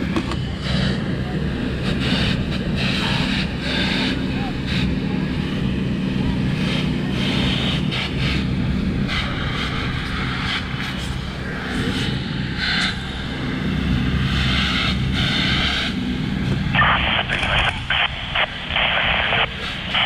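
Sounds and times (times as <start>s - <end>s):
low drone of engines: 0.0s - 20.0s.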